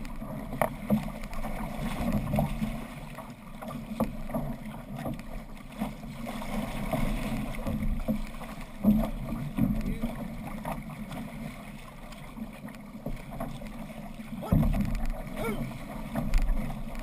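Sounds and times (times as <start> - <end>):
paddle stroke splashes: 0.0 - 17.0
water rushing along canoe hull: 0.0 - 17.0.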